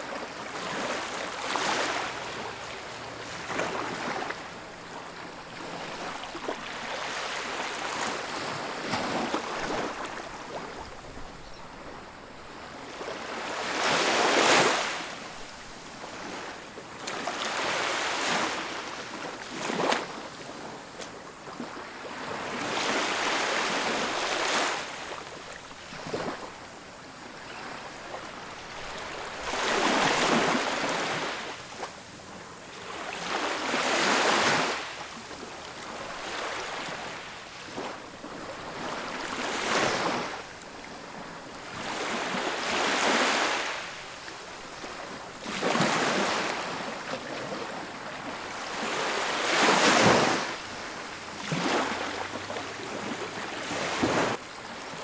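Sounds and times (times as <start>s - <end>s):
ocean surf breaking on a beach: 0.0s - 55.0s.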